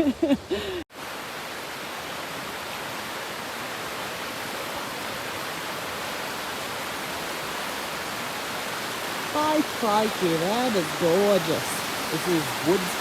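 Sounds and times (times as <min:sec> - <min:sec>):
creek water rushing: 0:00.4 - 0:13.0.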